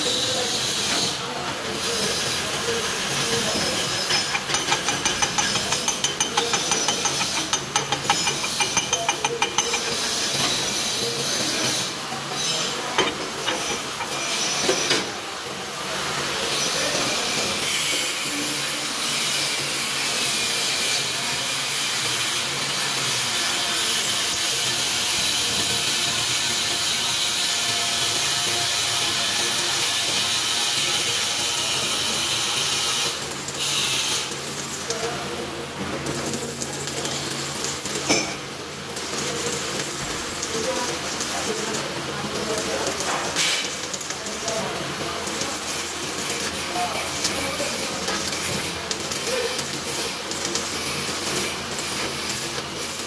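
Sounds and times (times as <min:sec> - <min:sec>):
welding arc crackling and hissing: 0:00.0 - 0:53.0.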